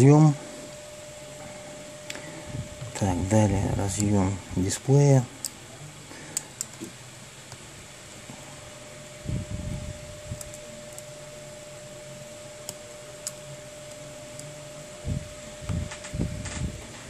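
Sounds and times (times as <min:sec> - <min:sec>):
fan running: 0:00.0 - 0:17.0.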